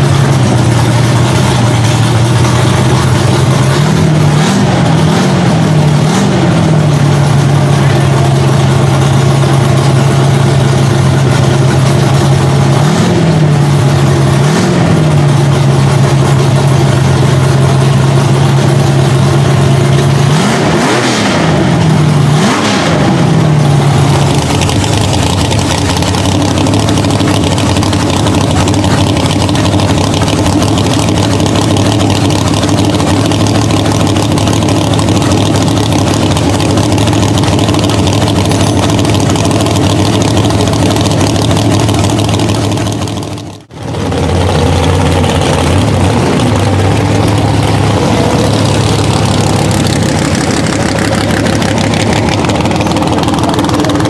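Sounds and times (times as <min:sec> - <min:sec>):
low steady engine idle: 0:00.0 - 0:20.4, 0:23.1 - 0:54.0
drag racing engine revving: 0:00.0 - 0:54.0.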